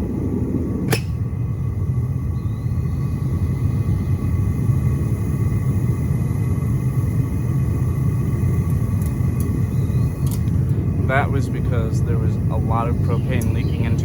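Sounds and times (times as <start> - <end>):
furnace burner rumbling: 0.0 - 14.0.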